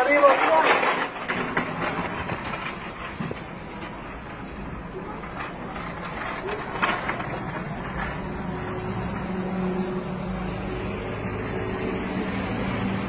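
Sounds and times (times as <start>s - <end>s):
vehicle engine humming: 1.2s - 13.0s.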